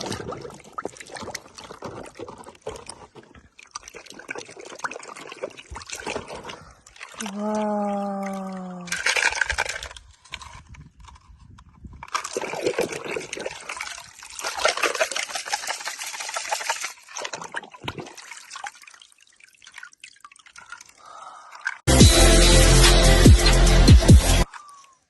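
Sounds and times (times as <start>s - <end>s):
water splashing and trickling: 0.0s - 21.9s.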